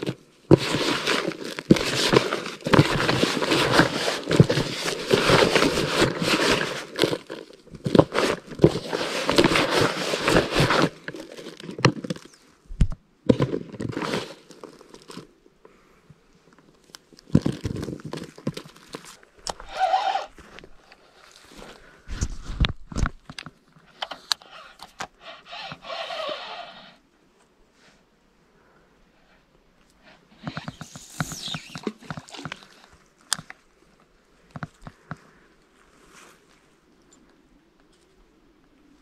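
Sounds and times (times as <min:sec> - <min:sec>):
rustling and crinkling: 0:00.0 - 0:15.8, 0:16.4 - 0:28.0, 0:29.8 - 0:39.0.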